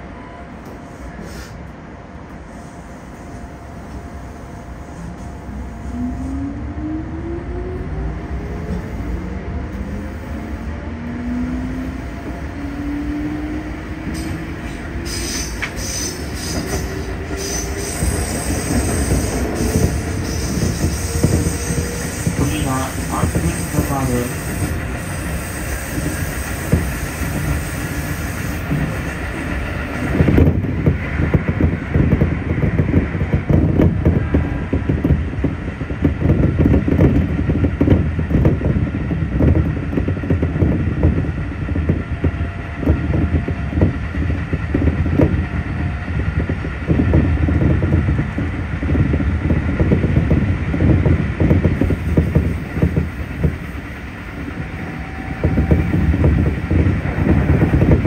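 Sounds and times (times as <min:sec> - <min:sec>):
train rumbling from inside: 0:00.0 - 0:58.0.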